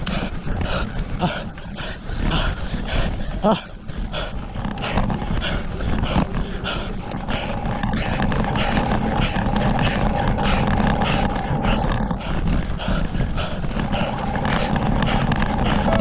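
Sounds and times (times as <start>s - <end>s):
cyclist breathing hard: 0.0s - 16.0s
wind and road noise: 0.0s - 16.0s.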